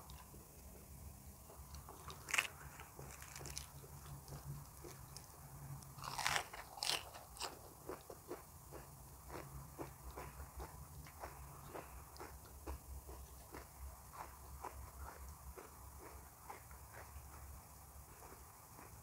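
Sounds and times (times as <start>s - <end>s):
wet crunchy chewing: 1.5s - 17.1s.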